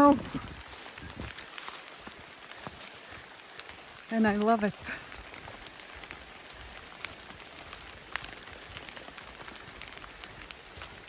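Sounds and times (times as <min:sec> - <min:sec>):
rain pattering on forest: 0:00.0 - 0:11.0
raindrops ticking: 0:00.0 - 0:11.0.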